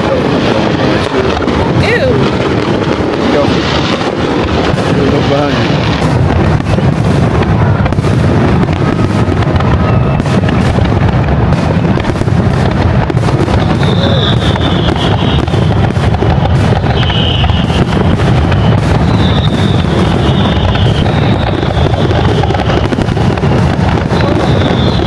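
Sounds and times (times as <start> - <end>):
fireworks booms and crackles: 0.0 - 25.0.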